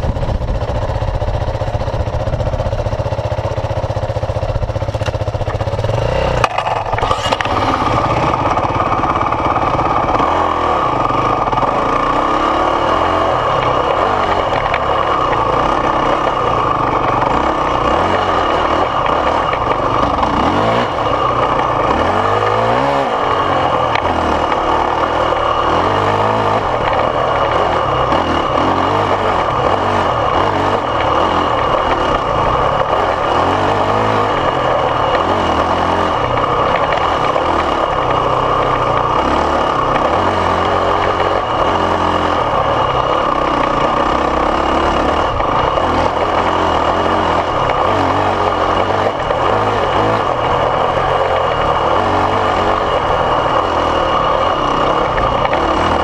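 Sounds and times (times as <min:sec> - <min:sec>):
dirt bike engine revving: 0:00.0 - 0:56.0
loud steady rushing noise: 0:00.0 - 0:56.0.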